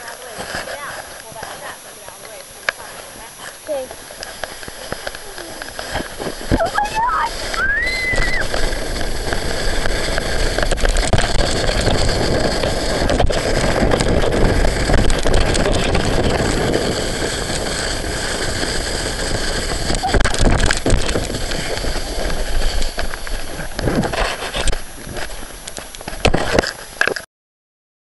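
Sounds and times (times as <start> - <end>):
wind roaring over microphone: 0.0 - 27.2.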